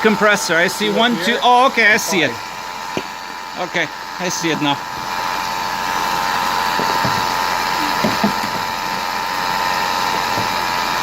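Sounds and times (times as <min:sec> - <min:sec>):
car engine running: 0:00.0 - 0:11.0
high-pitched alternator whine: 0:00.0 - 0:11.0.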